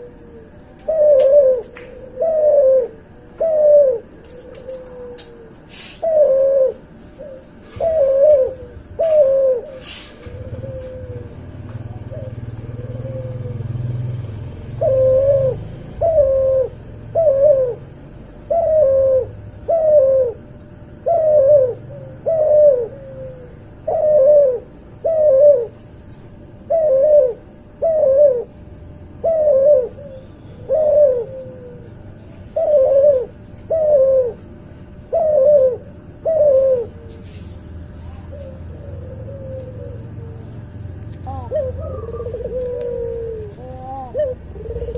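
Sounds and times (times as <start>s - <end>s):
dove cooing: 0.0s - 25.8s, 26.4s - 44.9s.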